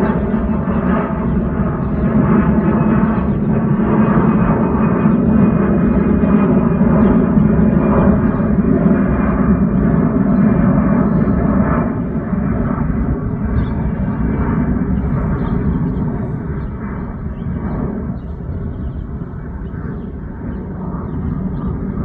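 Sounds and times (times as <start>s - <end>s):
jet engines rumbling overhead: 0.0s - 22.0s.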